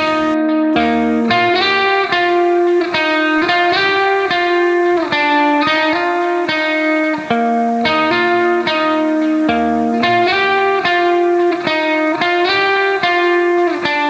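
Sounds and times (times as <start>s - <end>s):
guitar melody: 0.0s - 14.0s.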